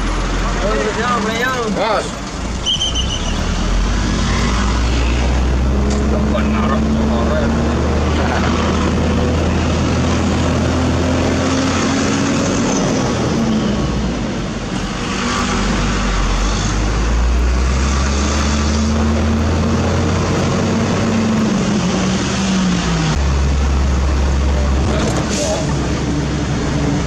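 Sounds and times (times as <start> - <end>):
heavy diesel engine revving: 0.0 - 27.0.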